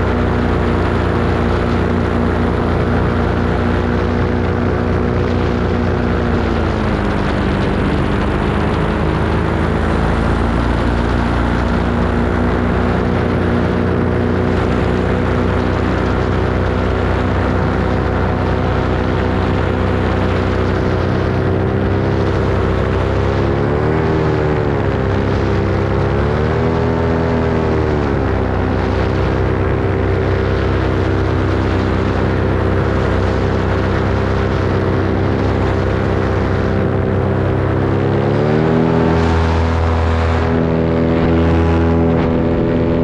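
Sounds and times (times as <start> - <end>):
paramotor engine and propeller: 0.0 - 43.0.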